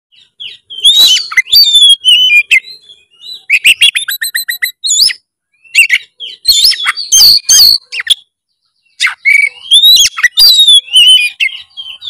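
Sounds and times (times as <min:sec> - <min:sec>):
songbird whistling and singing: 0:00.1 - 0:12.0.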